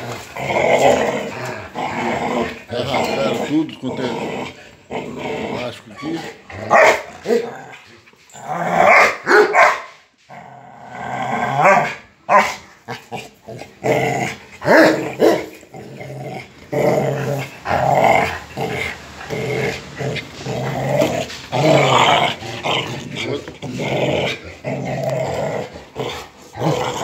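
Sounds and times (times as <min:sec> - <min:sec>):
dogs growling: 0:00.0 - 0:09.4, 0:10.2 - 0:27.0.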